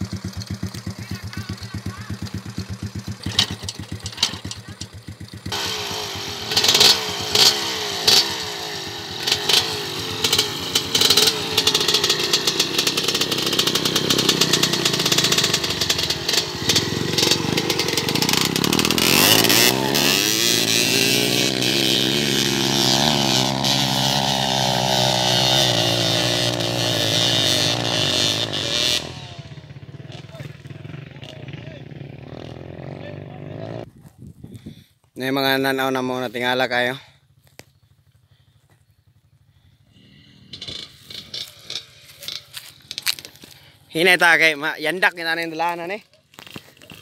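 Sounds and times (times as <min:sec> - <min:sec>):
dirt bike engines revving: 0:00.0 - 0:33.9, 0:35.5 - 0:47.0.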